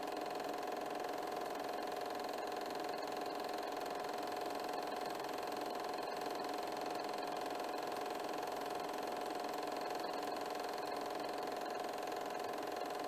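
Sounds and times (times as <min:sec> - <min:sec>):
film projector whirring: 0:00.0 - 0:13.0.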